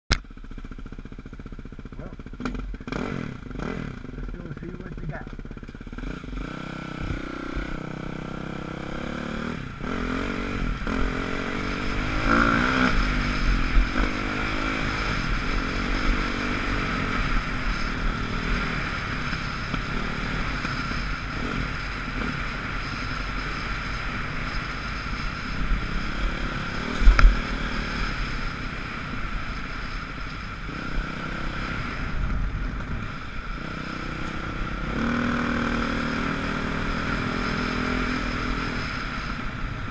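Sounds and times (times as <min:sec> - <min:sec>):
dirt bike engine revving: 0:00.5 - 0:39.4
wind rumble on microphone: 0:06.5 - 0:39.9.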